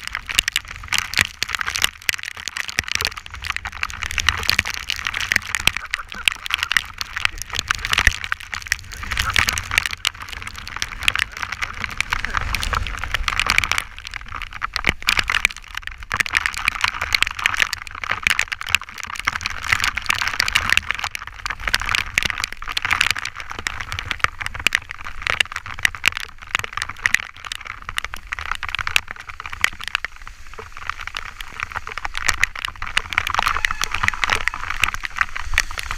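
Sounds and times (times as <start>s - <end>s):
bicycle tyres hissing on wet road: 0.0s - 35.9s
raindrops tapping on camera: 0.0s - 35.9s
wind rumble on camera: 0.0s - 35.9s.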